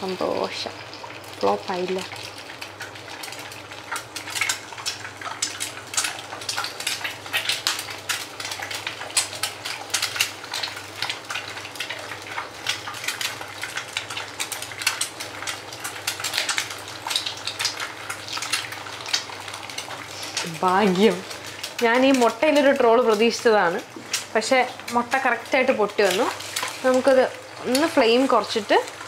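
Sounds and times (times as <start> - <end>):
eggs sizzling in oil: 0.0 - 29.0.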